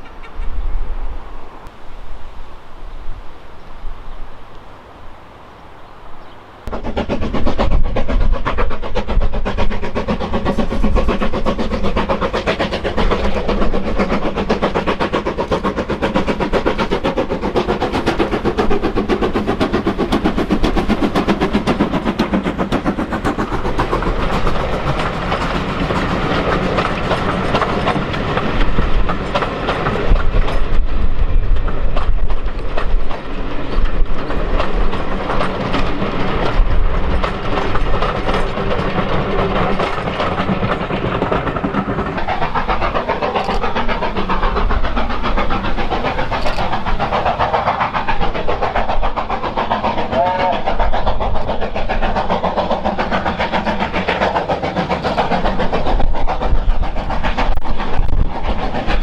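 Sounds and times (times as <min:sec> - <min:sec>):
steam locomotive beats: 0:06.1 - 0:59.0
coaches clattering on rails: 0:06.7 - 0:59.0.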